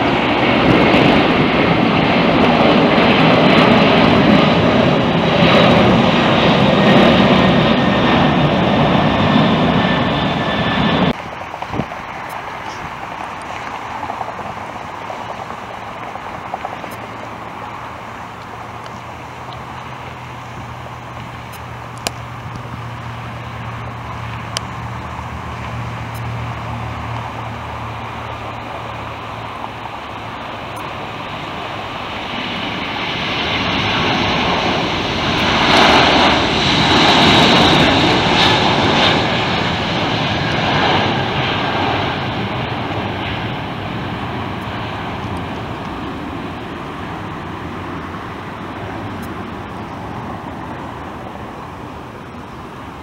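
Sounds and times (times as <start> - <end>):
jet airliner taking off: 0.0 - 53.0.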